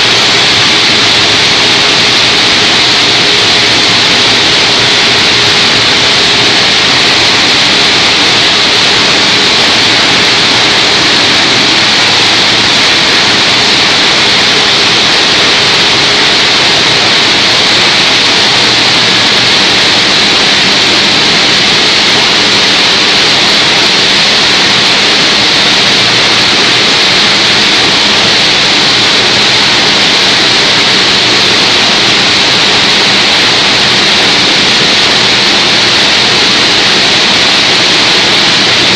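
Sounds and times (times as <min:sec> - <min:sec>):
hydraulic baler running: 0:00.0 - 0:38.9.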